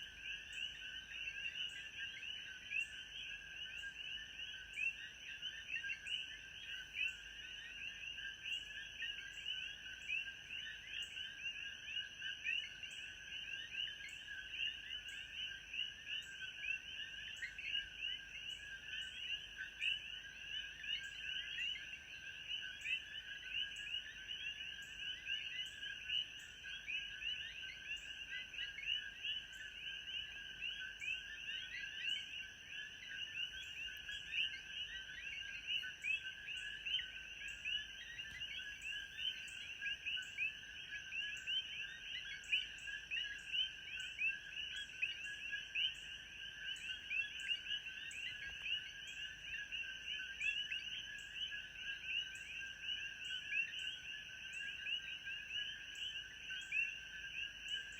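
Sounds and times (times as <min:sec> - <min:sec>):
chorus of frogs calling: 0:00.0 - 0:57.9.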